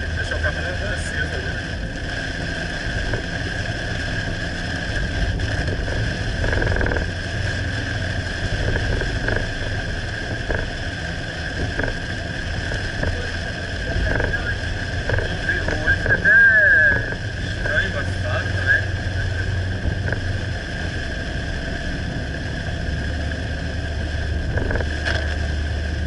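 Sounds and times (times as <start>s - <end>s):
car engine rumble: 0.0s - 26.0s
constant road hiss: 0.0s - 26.0s.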